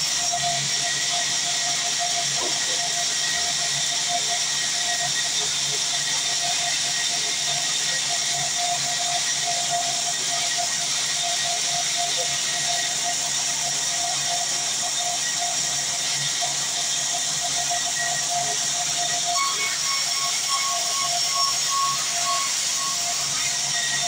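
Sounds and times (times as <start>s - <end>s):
band saw cutting wood: 0.0s - 24.0s.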